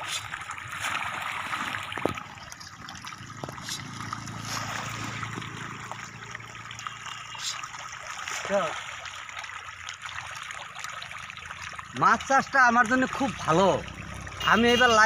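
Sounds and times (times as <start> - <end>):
fish splashing at surface: 0.0 - 14.6.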